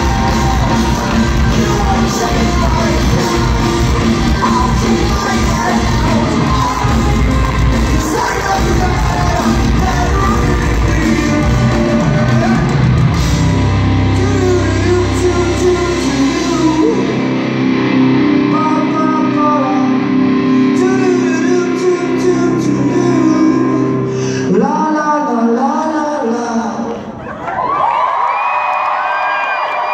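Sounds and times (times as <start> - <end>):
man singing: 0.0 - 13.4, 14.0 - 17.4, 18.2 - 27.0
live rock band playing: 0.0 - 24.8.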